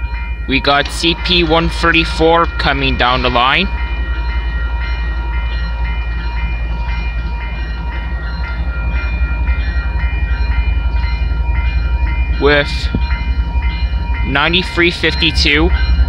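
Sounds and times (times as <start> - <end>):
level crossing bell dinging: 0.0 - 16.0
low rumble: 0.0 - 16.0.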